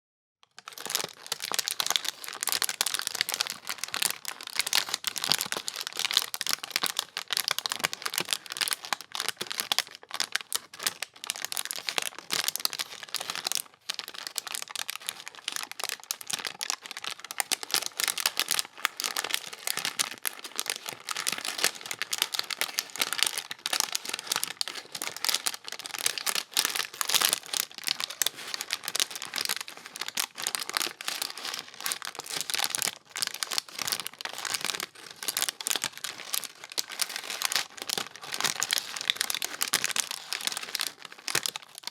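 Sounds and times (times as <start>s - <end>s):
paper being crumpled: 0.6s - 41.9s.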